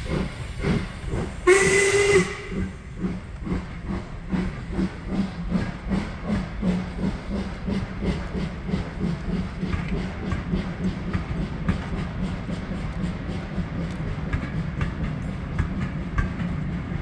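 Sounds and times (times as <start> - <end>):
train wheels clattering: 0.0 - 17.0.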